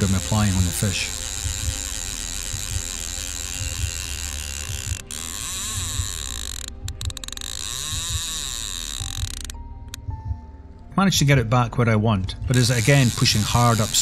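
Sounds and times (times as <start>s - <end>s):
fishing reel ratcheting: 0.0s - 10.1s, 12.5s - 14.0s.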